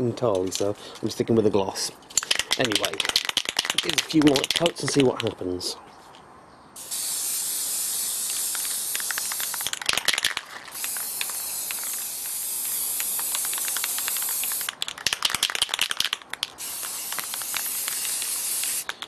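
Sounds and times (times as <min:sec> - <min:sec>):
spray can rattling: 0:02.1 - 0:05.4, 0:06.8 - 0:19.0
spray paint can hissing: 0:02.2 - 0:05.3, 0:06.8 - 0:19.0.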